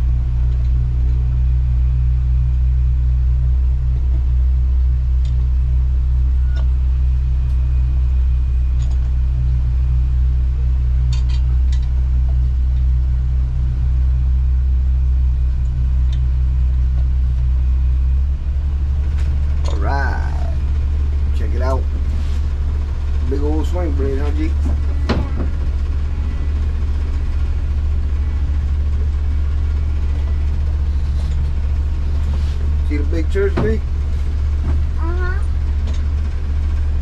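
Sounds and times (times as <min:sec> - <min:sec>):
boat motor humming: 0:00.0 - 0:37.0.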